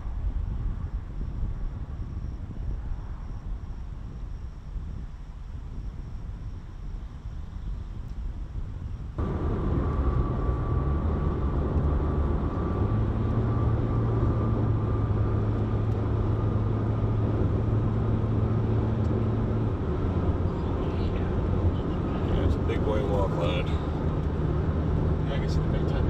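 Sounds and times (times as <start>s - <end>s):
car engine and tyre noise: 0.0s - 26.0s.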